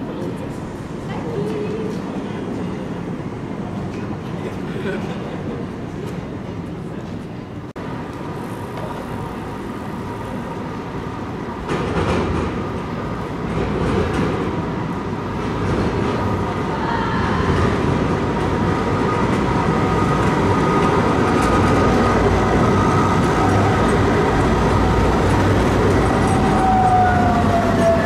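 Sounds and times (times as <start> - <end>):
tram rolling on rails: 0.0 - 28.0.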